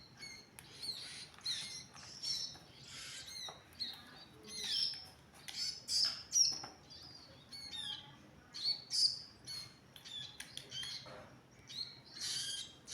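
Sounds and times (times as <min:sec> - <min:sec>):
small bird chirping: 0:00.0 - 0:12.9.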